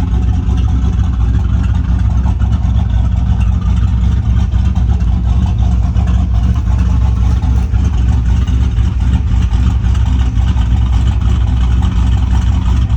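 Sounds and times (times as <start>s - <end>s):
engine idling with choppy lope: 0.0s - 12.9s.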